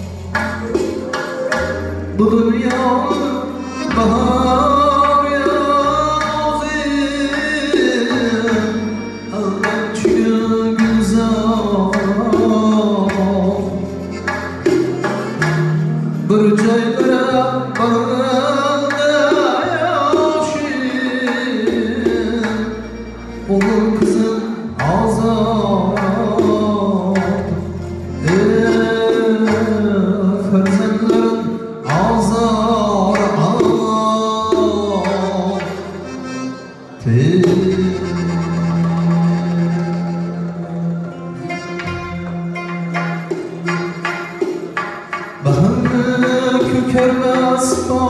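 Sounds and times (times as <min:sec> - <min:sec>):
electronic keyboard bass notes: 0:00.0 - 0:48.0
long-necked lute: 0:00.0 - 0:48.0
man singing into a microphone: 0:00.0 - 0:48.0
steady percussion beat: 0:00.0 - 0:48.0.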